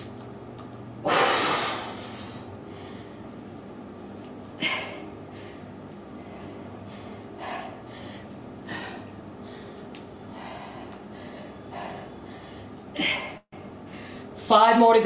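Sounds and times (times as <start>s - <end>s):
woman breathing hard: 1.0s - 3.4s, 4.6s - 14.4s.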